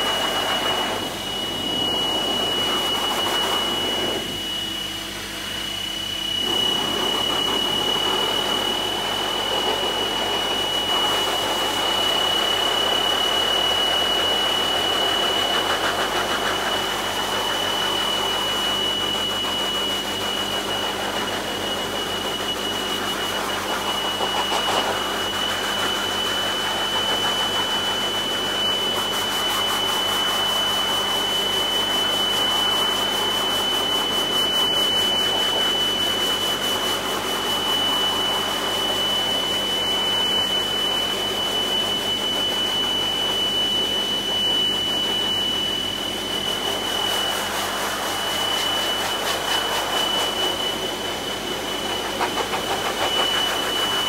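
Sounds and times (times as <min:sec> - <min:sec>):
high-pitched whine: 0:00.0 - 0:54.0
pet dryer blowing air: 0:00.0 - 0:54.0.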